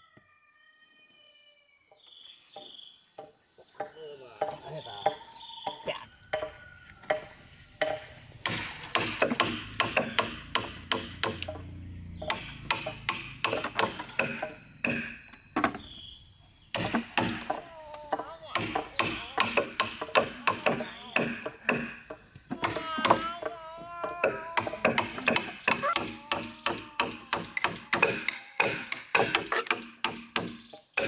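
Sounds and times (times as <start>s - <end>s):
chopping strikes on wood: 3.2s - 11.6s, 12.2s - 15.8s, 16.7s - 23.2s, 24.2s - 31.0s.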